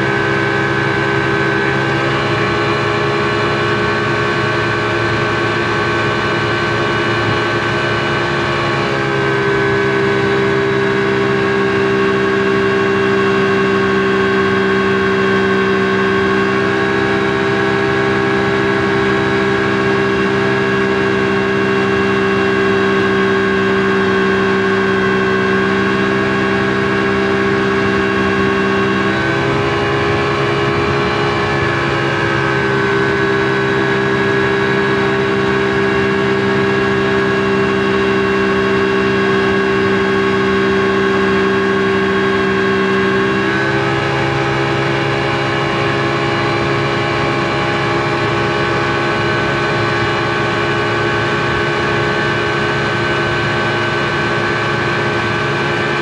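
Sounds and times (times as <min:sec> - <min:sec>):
speedboat engine droning: 0:00.0 - 0:56.0.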